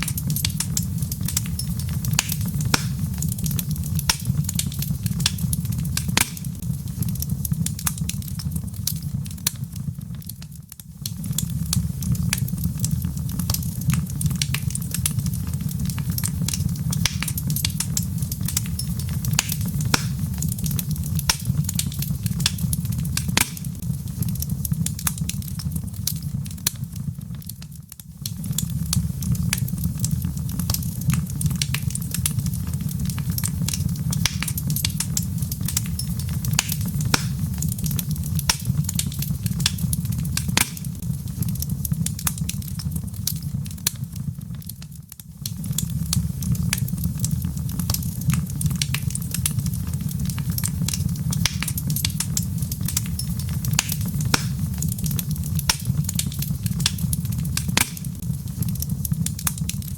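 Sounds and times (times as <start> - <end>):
log fire crackling: 0.0 - 59.9.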